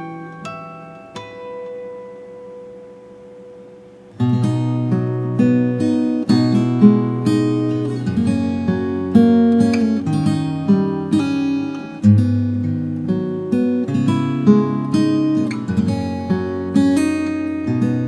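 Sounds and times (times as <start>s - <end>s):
acoustic guitar plucked and strummed: 0.0s - 18.0s.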